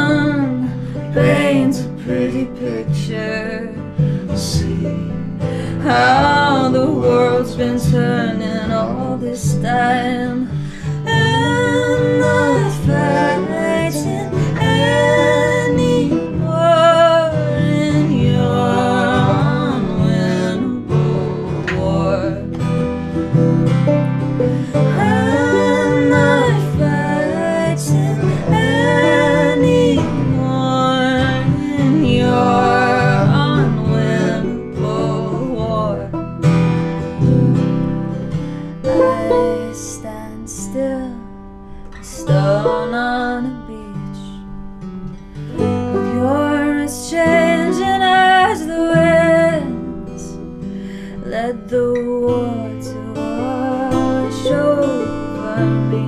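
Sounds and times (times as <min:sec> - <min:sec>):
acoustic guitar: 0:00.0 - 0:56.0
banjo: 0:00.0 - 0:56.0.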